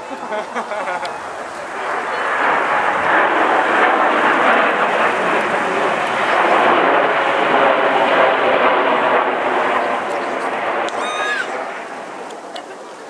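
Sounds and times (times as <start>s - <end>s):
jet engines flying over: 0.0s - 13.0s.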